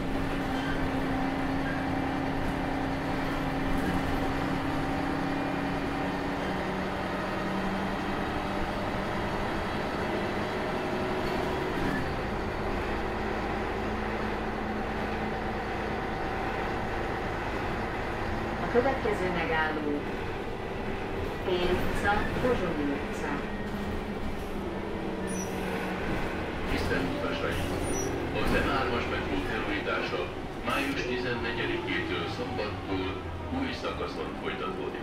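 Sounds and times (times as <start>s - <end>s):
bus diesel engine running: 0.0s - 35.0s
deep engine rumble: 0.0s - 35.0s.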